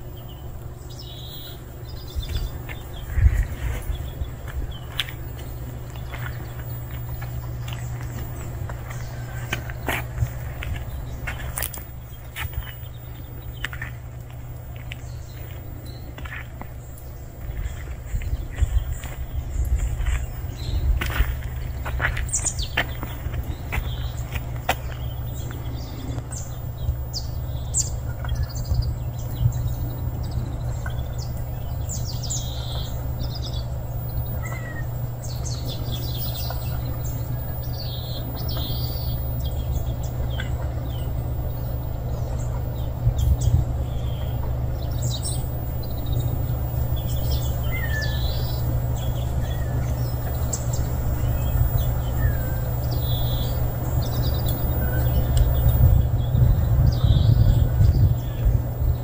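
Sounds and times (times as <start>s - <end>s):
small birds chirping: 0.0s - 59.0s
steady low rumble: 0.0s - 59.0s.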